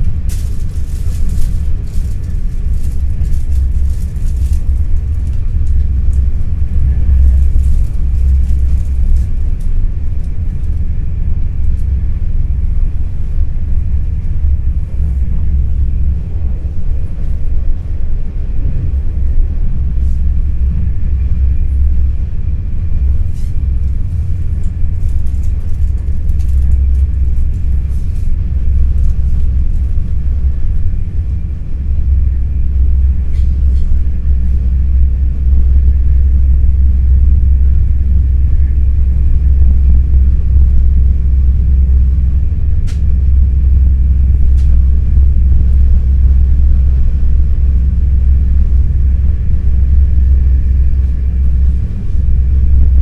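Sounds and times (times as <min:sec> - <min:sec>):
electric train low rumble: 0:00.0 - 0:53.0.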